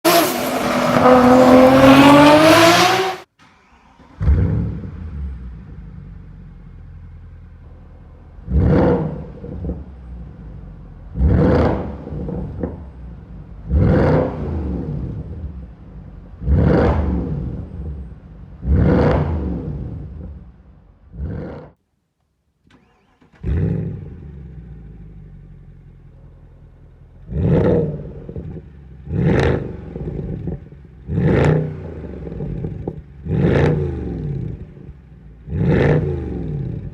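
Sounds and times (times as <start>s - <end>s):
car engine starting up: 0.0s - 21.8s, 22.7s - 36.9s
engine revving: 0.0s - 21.8s, 22.7s - 26.3s, 27.1s - 36.9s
car engine idling: 3.4s - 21.3s, 22.7s - 36.9s.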